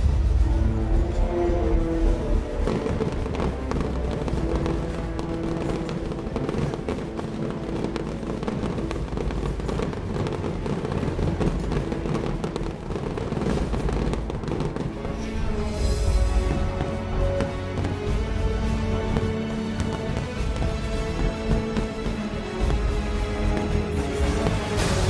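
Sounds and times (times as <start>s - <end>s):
fireworks crackling and popping: 0.0s - 25.0s
music soundtrack: 0.0s - 25.0s.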